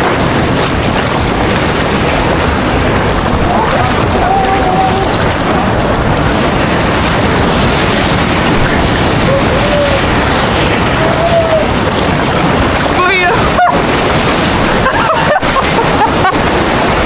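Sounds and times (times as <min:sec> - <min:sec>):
sea waves crashing on rocks: 0:00.0 - 0:17.0.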